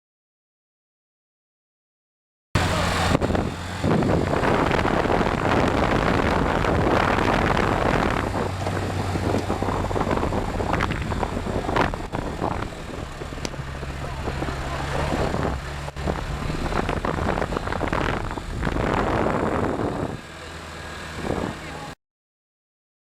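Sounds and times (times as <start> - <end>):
wind rushing: 2.6 - 21.6
motorcycle engine running: 2.6 - 22.0
road noise: 2.6 - 22.0.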